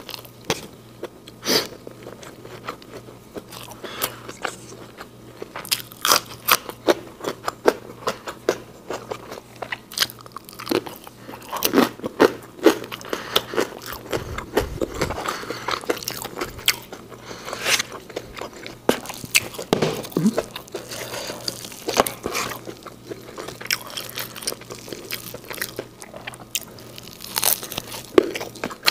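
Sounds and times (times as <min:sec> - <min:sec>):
crunching and chewing green bean: 0:00.0 - 0:28.9.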